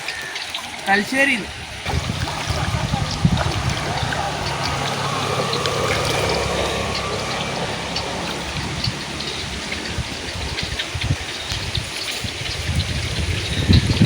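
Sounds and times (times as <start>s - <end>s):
rain falling: 0.0s - 14.0s
water splashing: 0.0s - 14.0s.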